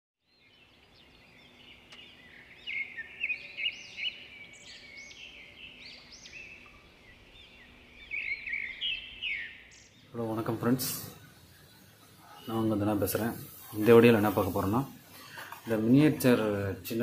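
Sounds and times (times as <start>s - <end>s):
small birds chirping: 0.2s - 17.0s
faint steady hum: 0.3s - 17.0s.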